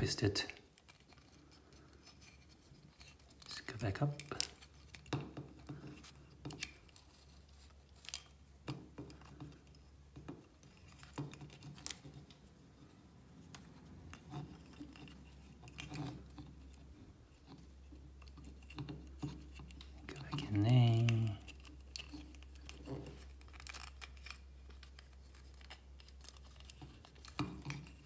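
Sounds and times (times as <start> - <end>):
wooden puzzle clicking: 0.0 - 28.0.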